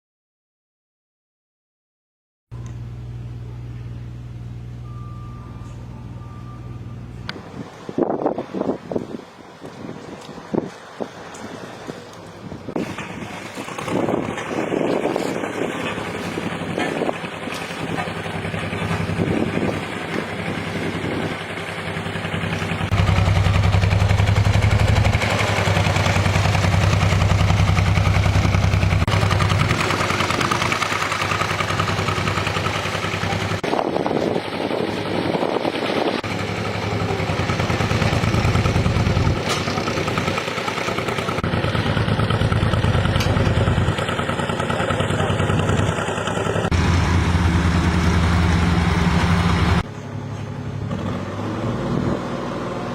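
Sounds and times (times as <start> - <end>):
road machinery engines humming: 2.6 - 52.9.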